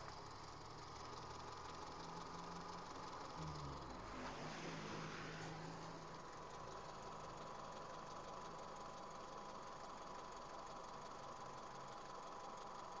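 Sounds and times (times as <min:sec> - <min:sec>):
engine knock: 0:00.0 - 0:03.9, 0:06.0 - 0:13.0
car engine idling: 0:00.0 - 0:13.0.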